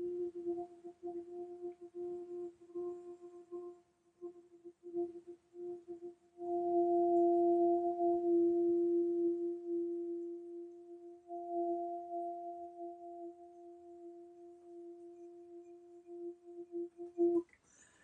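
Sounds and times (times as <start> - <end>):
voice humming steady tone: 0.0 - 17.4.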